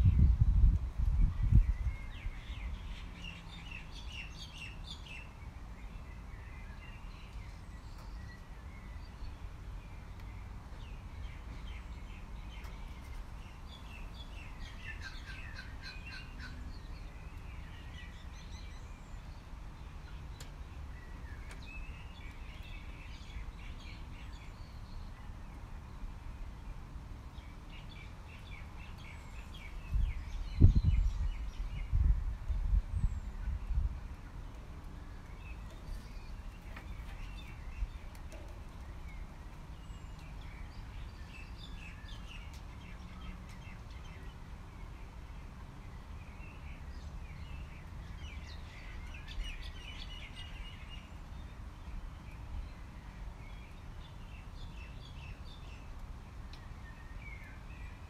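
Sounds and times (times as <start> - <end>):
birds chirping: 1.2 - 58.0.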